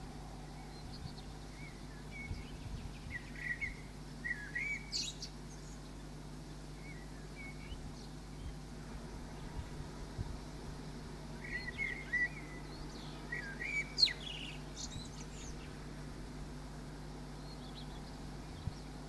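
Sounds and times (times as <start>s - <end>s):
low background hum: 0.0s - 19.0s
songbirds chirping: 0.0s - 19.0s.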